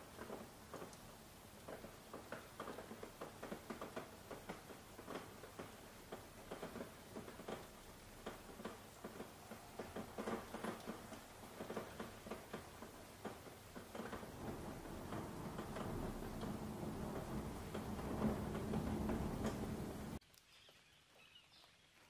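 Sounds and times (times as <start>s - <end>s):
raindrops tapping: 0.0s - 20.4s
soft rain hiss: 0.0s - 22.0s.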